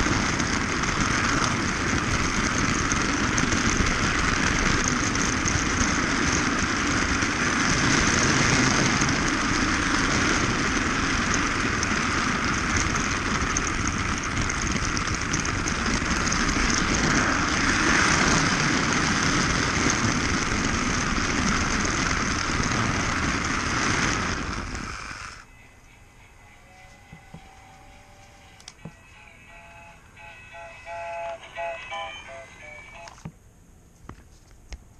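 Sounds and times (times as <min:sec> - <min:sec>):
toy train motor whirring and rattling: 0:00.0 - 0:33.3.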